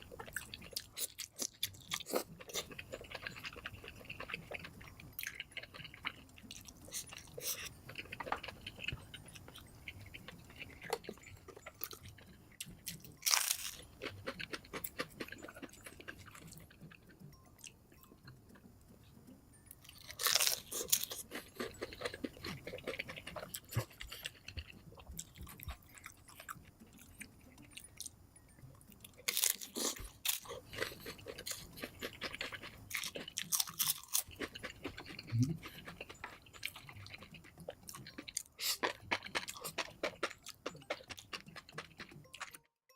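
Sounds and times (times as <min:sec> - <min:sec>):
food crunching and chewing: 0:00.0 - 0:42.7.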